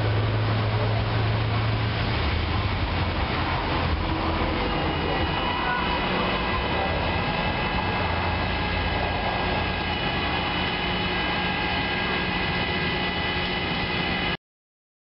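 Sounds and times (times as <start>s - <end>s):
traffic engines idling: 0.0s - 14.4s.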